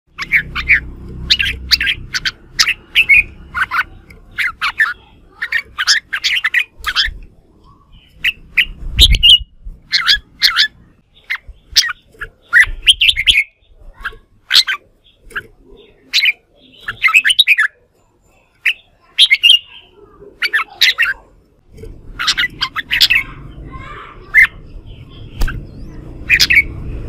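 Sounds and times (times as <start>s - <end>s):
bulbul chirping song: 0.1s - 27.0s.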